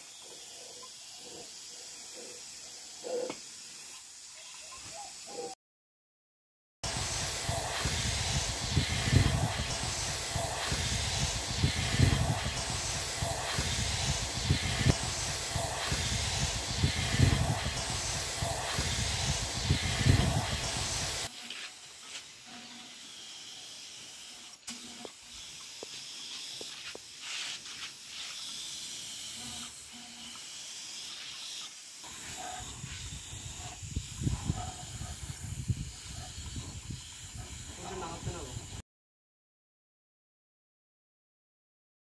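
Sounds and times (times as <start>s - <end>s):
loud steady hiss: 0.0s - 5.6s, 6.8s - 38.8s.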